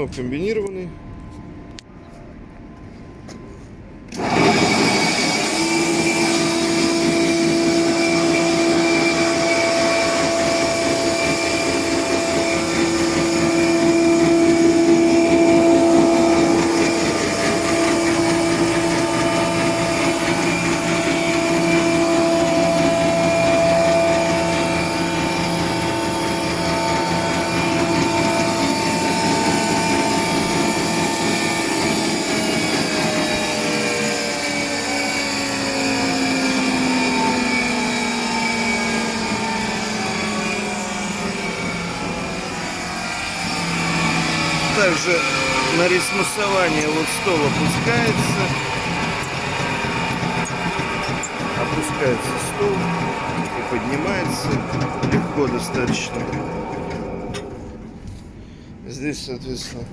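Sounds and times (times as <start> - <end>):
planer whining: 4.1 - 58.8
cutterhead spinning rush: 4.2 - 36.2, 40.5 - 56.4.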